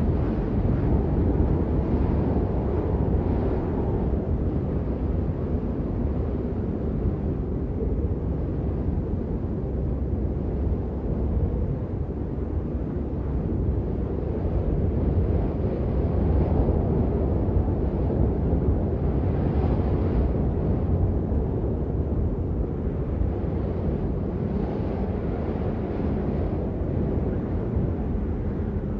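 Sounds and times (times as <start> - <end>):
blizzard wind blowing hard: 0.0 - 28.9.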